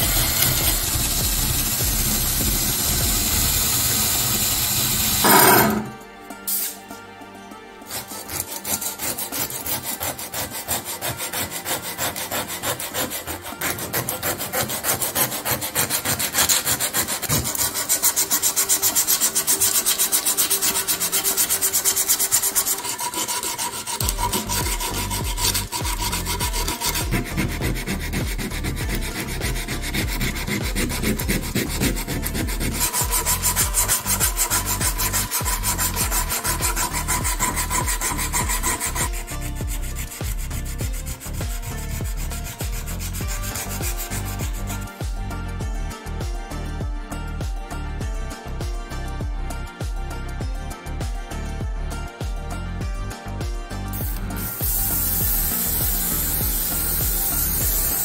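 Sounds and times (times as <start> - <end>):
sandpaper rasping on metal: 0.0 - 6.8, 7.9 - 45.4, 53.9 - 58.0.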